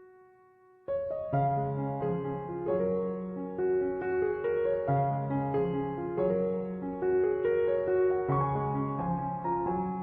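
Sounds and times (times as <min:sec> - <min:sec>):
slow solo piano: 0:00.0 - 0:10.0.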